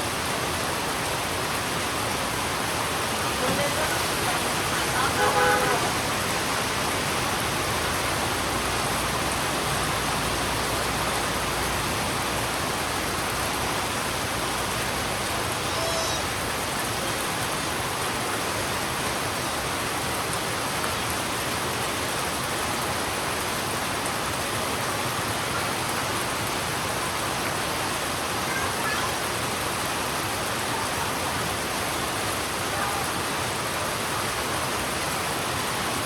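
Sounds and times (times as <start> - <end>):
heavy rain on a road: 0.0 - 36.0.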